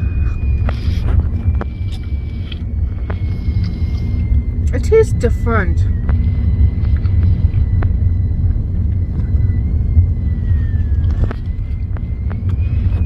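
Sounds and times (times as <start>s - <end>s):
faint high whine: 0.0s - 13.0s
low rumble: 0.0s - 13.0s.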